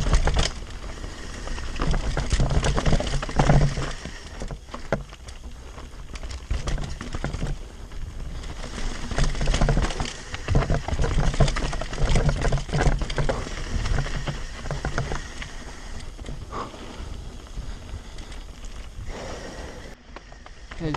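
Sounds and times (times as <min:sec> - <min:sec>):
bike clattering: 0:00.0 - 0:19.0
bike tyres crunching over stones: 0:00.0 - 0:20.9.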